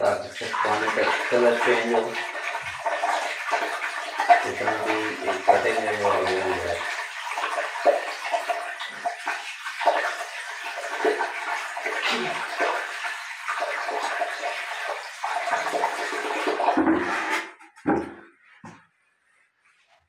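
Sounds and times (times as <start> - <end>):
water pouring and splashing: 0.0 - 18.2.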